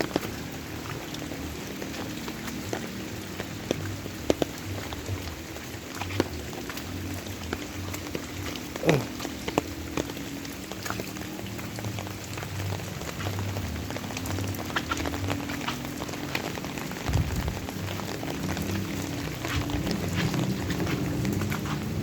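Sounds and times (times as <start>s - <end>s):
raindrops ticking on surfaces: 0.0s - 22.0s
steady rain falling: 0.0s - 22.0s.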